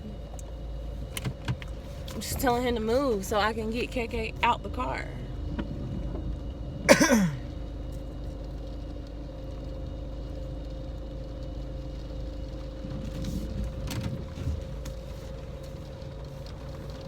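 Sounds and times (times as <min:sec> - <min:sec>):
car idling: 0:00.0 - 0:17.0.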